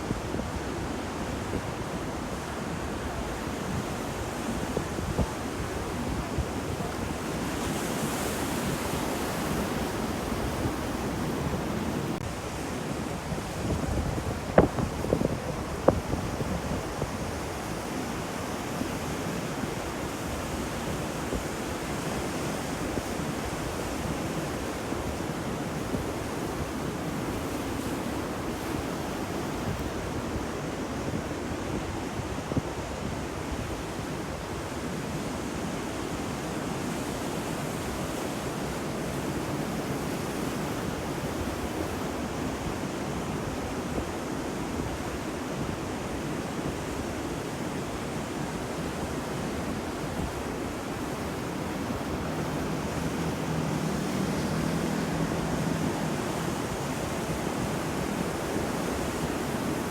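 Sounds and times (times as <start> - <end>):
ocean waves washing: 0.0 - 59.9.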